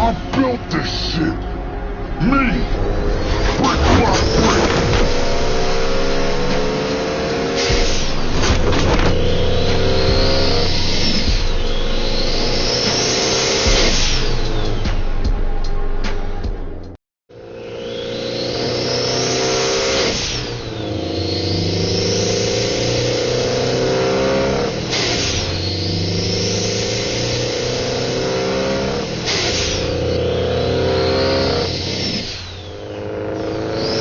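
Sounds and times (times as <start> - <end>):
car engine accelerating: 0.0 - 34.0
turbo whine: 0.0 - 34.0.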